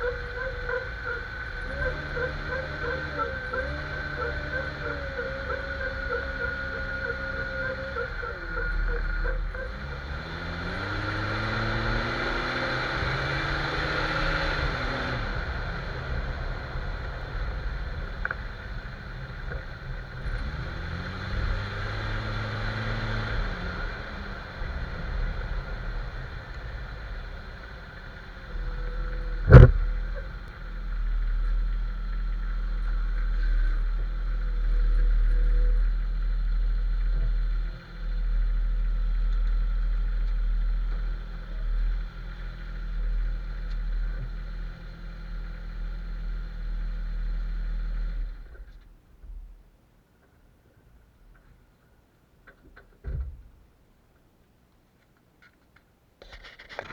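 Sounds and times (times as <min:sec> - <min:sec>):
car engine accelerating and slowing: 0:00.0 - 0:48.9.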